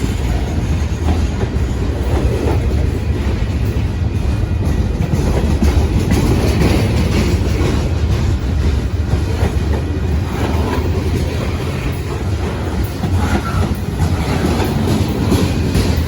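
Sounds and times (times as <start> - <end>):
clattering over rail joints: 0.0 - 16.0
train wheels rumbling on rails: 0.0 - 16.0.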